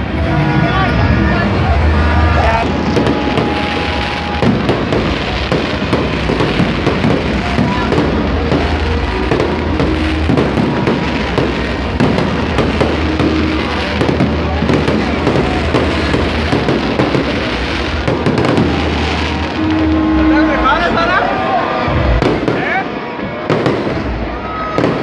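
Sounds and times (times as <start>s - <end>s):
music playing: 0.0s - 25.0s
fireworks cracking and banging: 2.6s - 21.0s, 21.9s - 25.0s.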